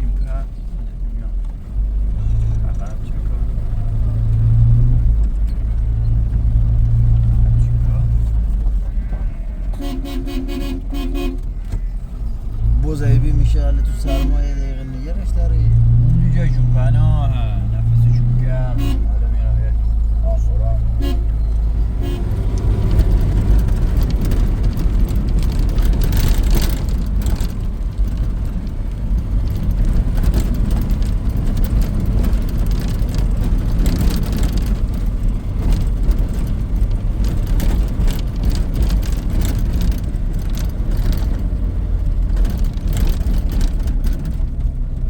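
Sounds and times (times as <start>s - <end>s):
vehicle engine and road rumble: 0.0s - 45.0s
knocks and rattles: 1.4s - 45.0s.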